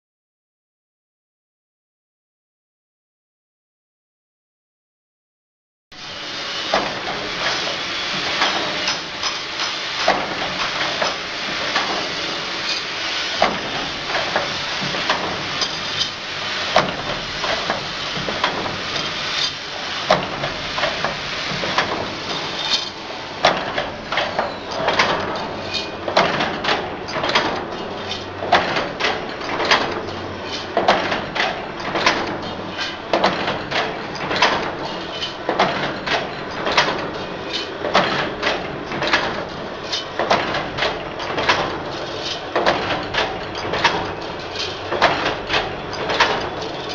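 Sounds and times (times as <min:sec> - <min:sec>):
wire-forming machine running: 0:06.0 - 0:46.9.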